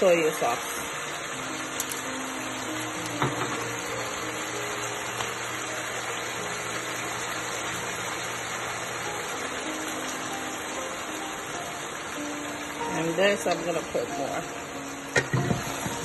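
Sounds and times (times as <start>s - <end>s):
faint background music: 0.0s - 16.0s
food sizzling in a frying pan: 0.0s - 16.0s.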